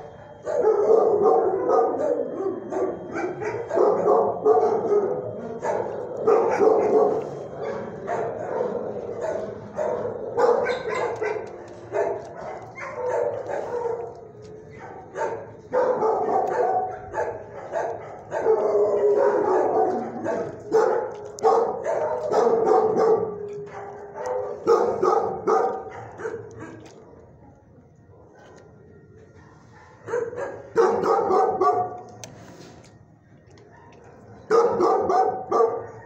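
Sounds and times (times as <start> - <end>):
dogs barking: 0.0 - 27.2, 29.2 - 32.2, 33.6 - 36.0.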